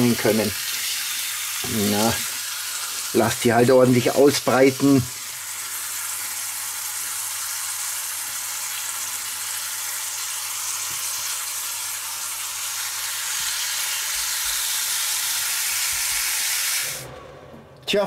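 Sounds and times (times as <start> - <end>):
beef sizzling in butter: 0.0 - 17.1.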